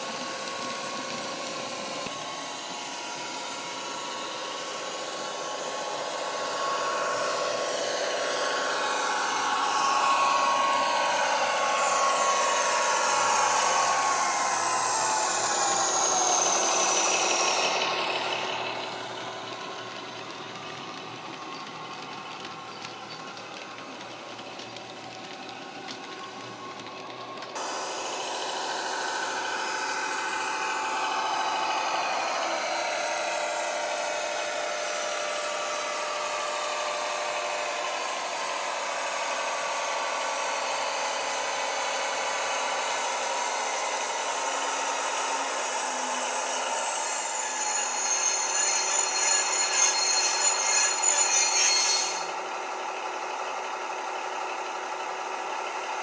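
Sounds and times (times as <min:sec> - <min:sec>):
rising and falling whines: 0:00.0 - 0:53.7
model locomotive engine sound: 0:00.0 - 0:56.0
wheels running on track: 0:00.0 - 0:56.0.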